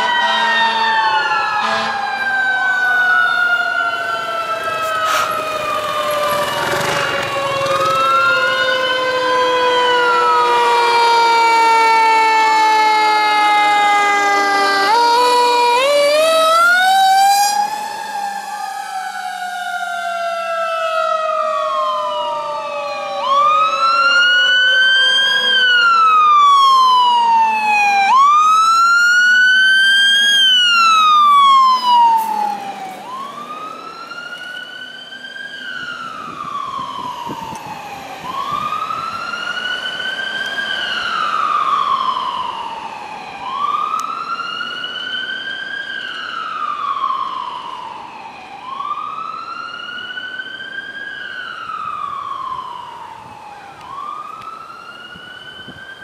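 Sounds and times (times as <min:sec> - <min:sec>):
fire truck sirens wailing: 0:00.0 - 0:56.0.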